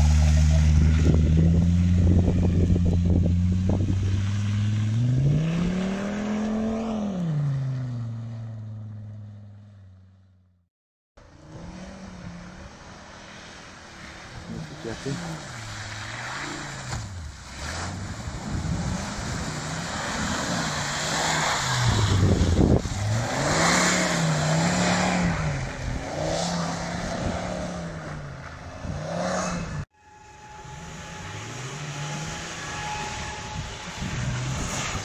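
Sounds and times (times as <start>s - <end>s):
car engine revving: 0.0s - 9.8s, 11.2s - 35.0s.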